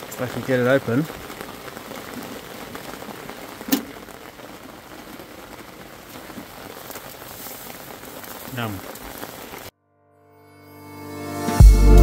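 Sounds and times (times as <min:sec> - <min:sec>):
rain hissing: 0:00.0 - 0:09.7.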